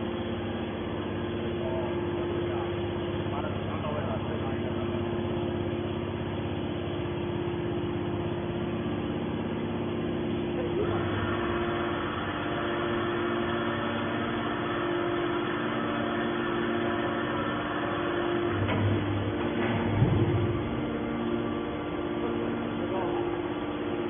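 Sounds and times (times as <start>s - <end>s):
scrap baler hydraulic hum: 0.0s - 24.0s.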